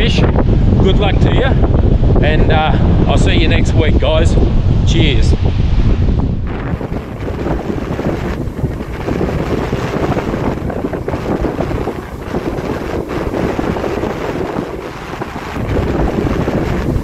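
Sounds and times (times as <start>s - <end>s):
wind buffeting microphone: 0.0s - 17.0s
ocean surf breaking: 1.6s - 17.0s.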